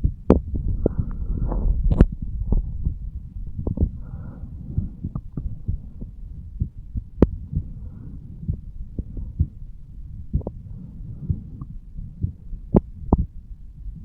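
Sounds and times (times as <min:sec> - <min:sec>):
heartbeat thuds: 0:00.0 - 0:14.0
steady low hum: 0:00.0 - 0:14.0.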